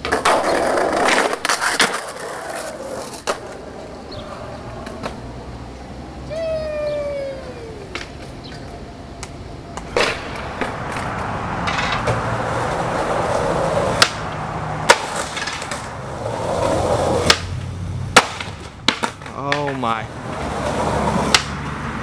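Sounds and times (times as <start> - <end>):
skateboard clacks: 0.0 - 5.3, 7.7 - 21.8
skateboard wheels rolling on pavement: 0.0 - 22.0.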